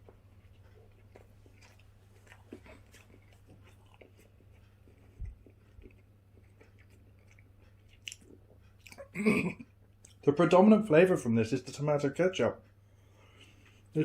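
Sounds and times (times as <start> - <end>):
faint chewing: 0.0 - 10.3, 12.6 - 14.0.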